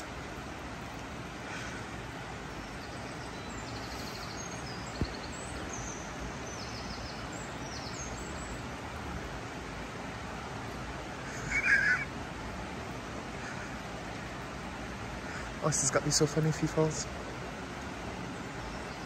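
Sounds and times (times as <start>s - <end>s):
river rushing: 0.0s - 19.0s
small birds chirping: 0.0s - 19.0s.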